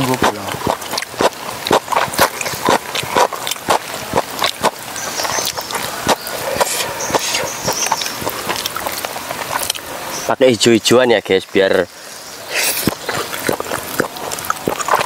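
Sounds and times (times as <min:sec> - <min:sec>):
person chewing food: 0:00.0 - 0:09.9, 0:12.5 - 0:15.0.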